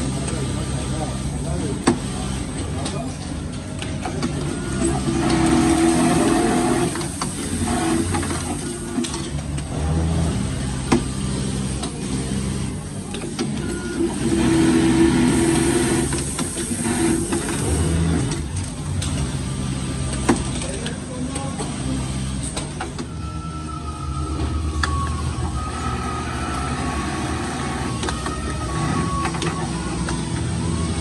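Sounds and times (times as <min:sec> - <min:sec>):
sewing machine running: 0:04.2 - 0:31.0.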